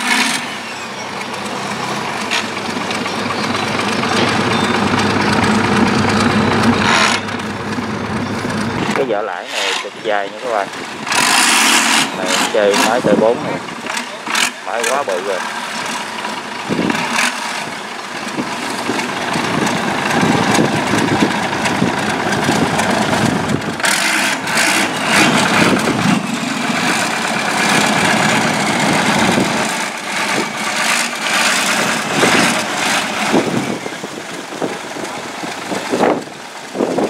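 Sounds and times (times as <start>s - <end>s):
boat engine running hard: 0.0s - 37.0s.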